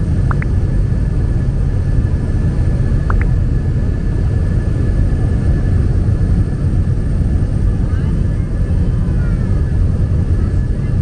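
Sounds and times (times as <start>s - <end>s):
propeller engine droning: 0.0s - 11.0s.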